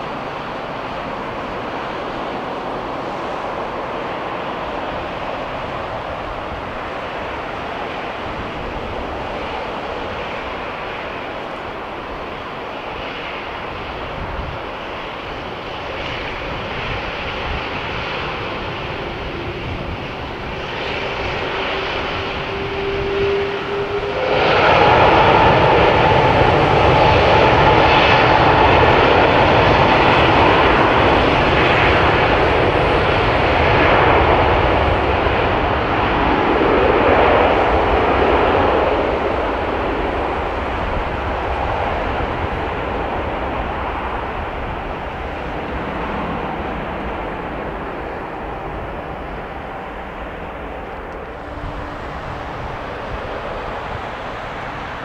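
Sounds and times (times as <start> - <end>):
jet engines roaring and whining: 0.0 - 55.0.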